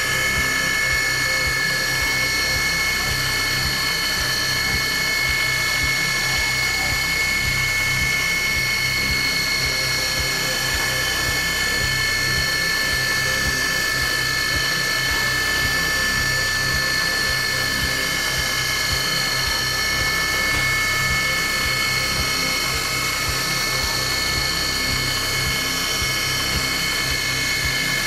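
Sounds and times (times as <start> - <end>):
milling machine whine: 0.0 - 28.0.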